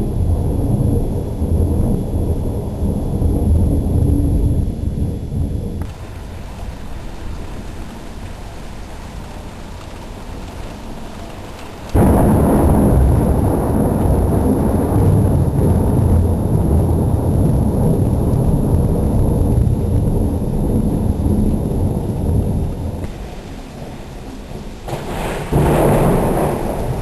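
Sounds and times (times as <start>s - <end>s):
thunder rumbling: 0.0s - 27.0s.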